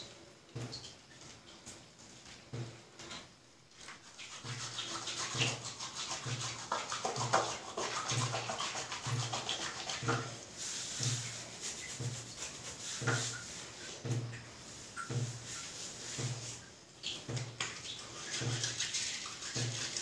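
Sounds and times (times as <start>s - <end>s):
wet hands rubbing soap: 3.7s - 20.0s.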